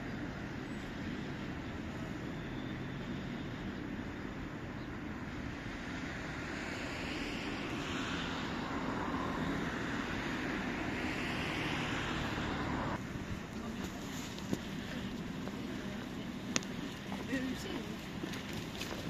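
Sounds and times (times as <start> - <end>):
traffic noise: 0.0 - 19.0
passing vehicle rushing: 1.2 - 19.0.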